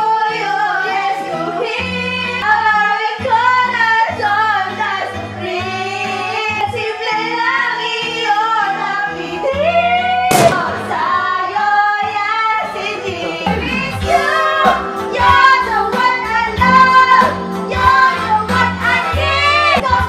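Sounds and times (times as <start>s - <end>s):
music backing track: 0.0s - 20.0s.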